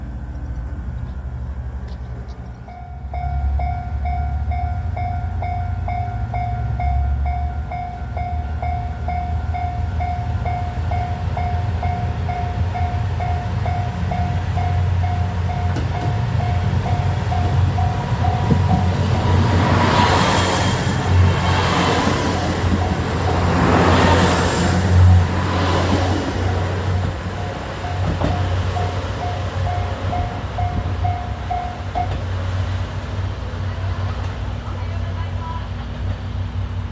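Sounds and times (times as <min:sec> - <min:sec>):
approaching train: 0:00.0 - 0:36.9
level crossing warning bell: 0:02.6 - 0:32.2.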